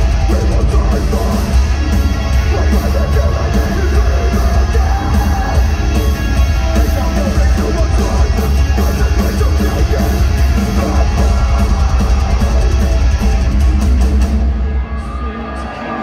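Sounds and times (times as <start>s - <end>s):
live heavy metal band: 0.0s - 16.0s.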